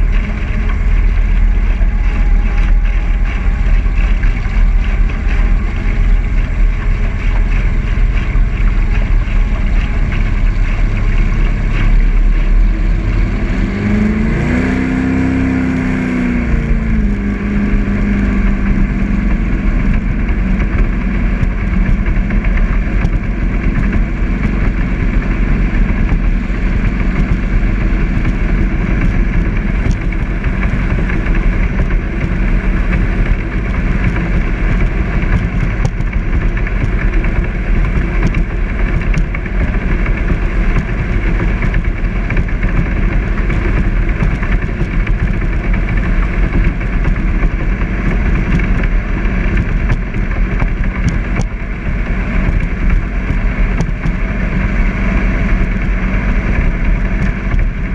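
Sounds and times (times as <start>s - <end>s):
jet boat engine cruising: 0.0s - 57.9s.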